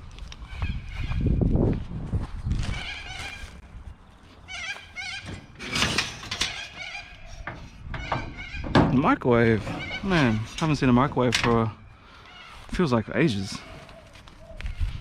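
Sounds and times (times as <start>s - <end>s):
birds calling: 0.0s - 1.6s, 2.4s - 15.0s.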